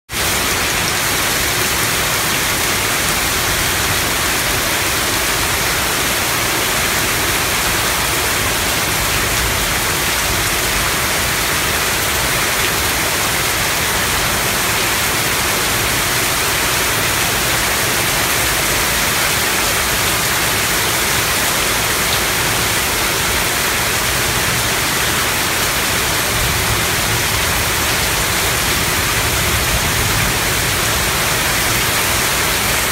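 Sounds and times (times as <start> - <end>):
heavy rain pouring: 0.1 - 32.9.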